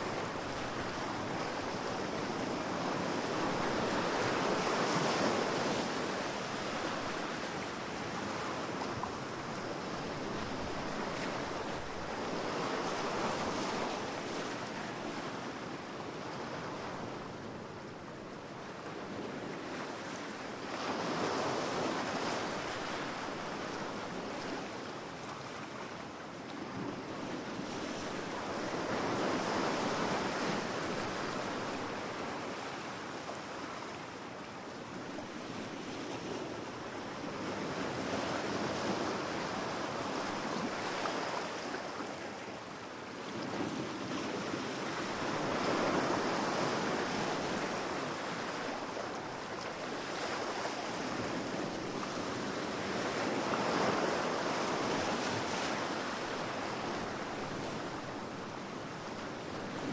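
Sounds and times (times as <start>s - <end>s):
sea waves breaking on beach: 0.0s - 17.6s, 18.7s - 59.9s.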